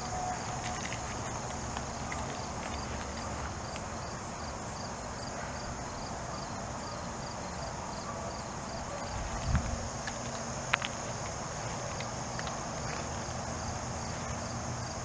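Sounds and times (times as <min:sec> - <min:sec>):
insects buzzing and chirping: 0:00.0 - 0:15.0.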